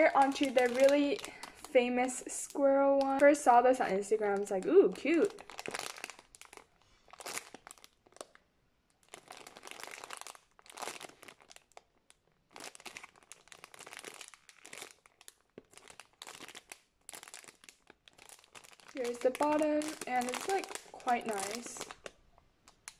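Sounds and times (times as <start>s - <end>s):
plastic bag crinkling: 0.0s - 22.9s.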